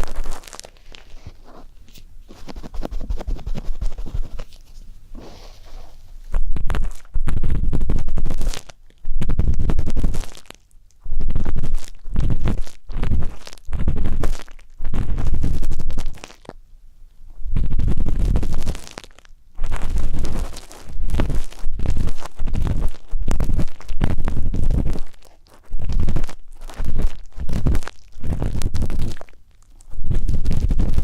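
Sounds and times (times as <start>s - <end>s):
ear pick scraping microphone: 0.0s - 10.4s, 11.0s - 16.2s, 17.4s - 19.0s, 19.6s - 31.0s.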